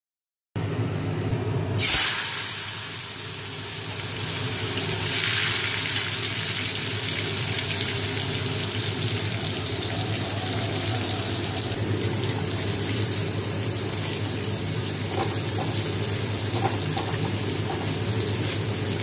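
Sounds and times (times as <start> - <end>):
vegetables sizzling in hot oil: 1.8 - 19.0.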